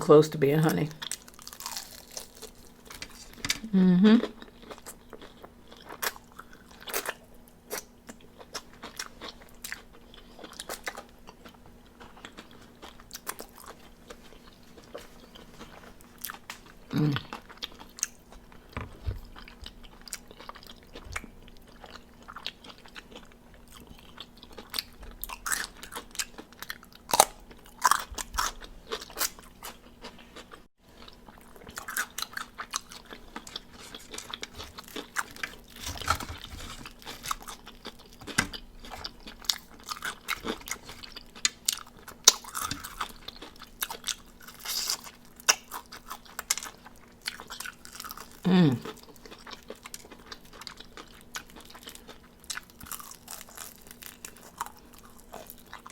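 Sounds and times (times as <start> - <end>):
crunchy chewing: 1.0 - 3.7, 4.3 - 55.9.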